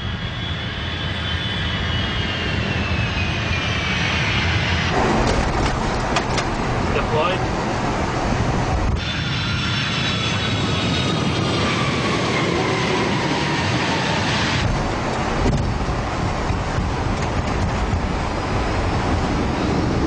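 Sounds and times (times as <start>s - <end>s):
falling-pitch engine whine: 0.0s - 20.0s
jet engine and air rush: 0.0s - 20.0s.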